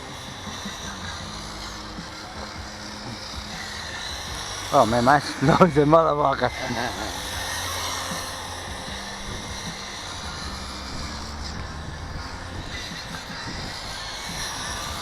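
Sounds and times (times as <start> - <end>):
electric rc car motors whining: 0.0 - 15.0.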